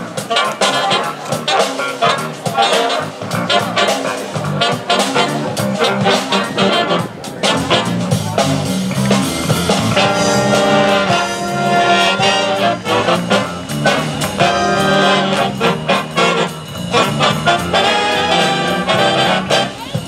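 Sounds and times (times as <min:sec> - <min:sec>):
drum kit: 0:00.0 - 0:20.0
trumpets and trombones chords: 0:00.0 - 0:20.0
electric bass: 0:01.0 - 0:19.8.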